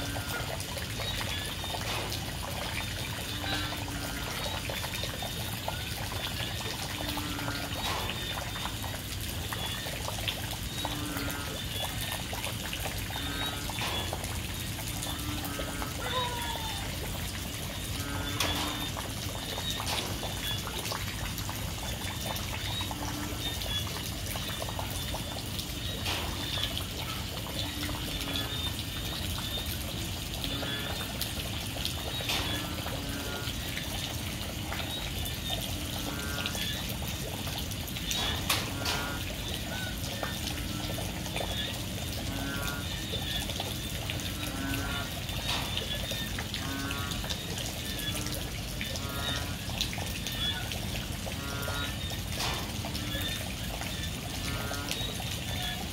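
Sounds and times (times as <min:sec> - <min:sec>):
frogs calling: 0:00.0 - 0:55.9
heavy rain falling: 0:00.0 - 0:55.9.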